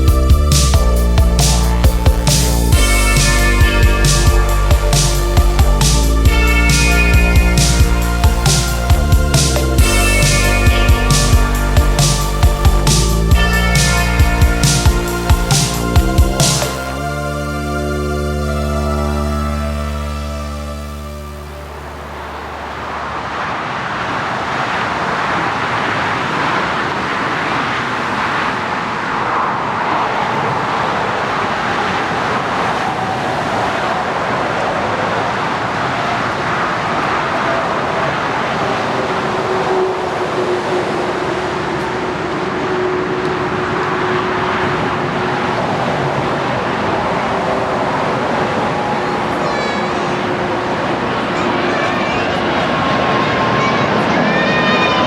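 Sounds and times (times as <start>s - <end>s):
steady droning tone: 0.0s - 24.0s, 29.1s - 55.0s
jet engine roar: 0.0s - 55.0s.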